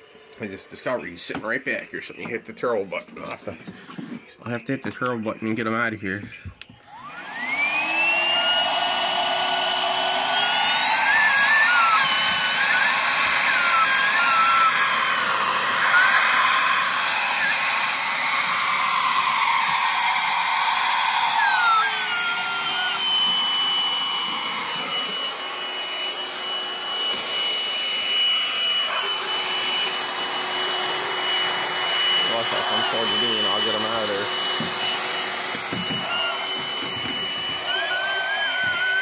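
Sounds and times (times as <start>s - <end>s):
vacuum cleaner whine: 0.0s - 39.0s
whistling air: 7.0s - 39.0s.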